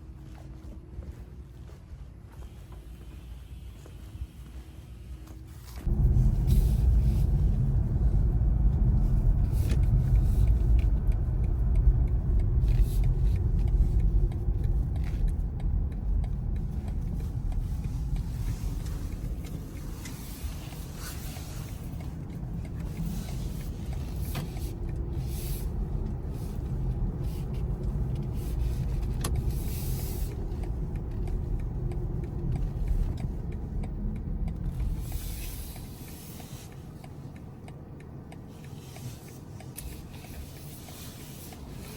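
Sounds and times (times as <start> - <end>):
car road and tyre noise: 0.0 - 41.9.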